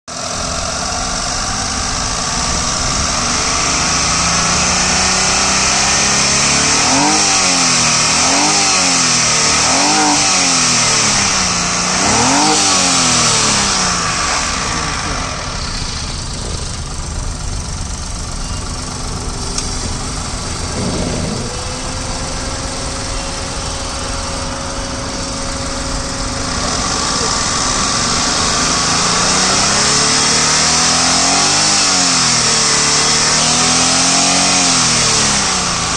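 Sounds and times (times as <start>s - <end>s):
car engine revving and idling: 0.1s - 35.9s.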